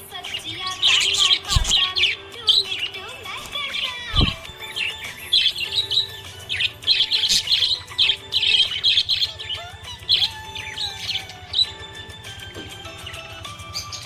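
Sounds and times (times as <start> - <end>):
budgerigar chirping: 0.0 - 14.0.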